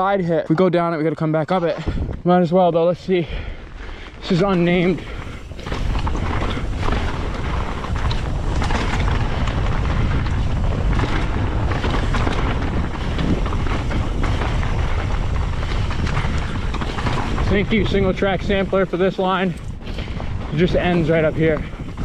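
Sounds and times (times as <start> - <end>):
wind buffeting microphone: 0.0 - 22.0
bike tyres crunching over gravel: 2.4 - 22.0
bike knocks and rattles: 4.2 - 22.0.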